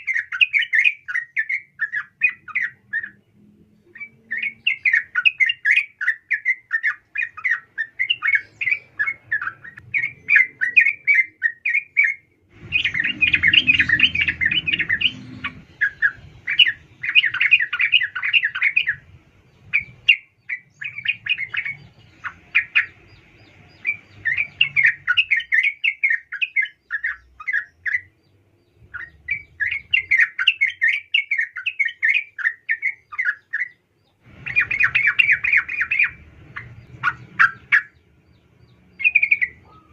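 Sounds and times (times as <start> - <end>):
bulbul chattering calls: 0.0 - 3.2, 3.9 - 39.9.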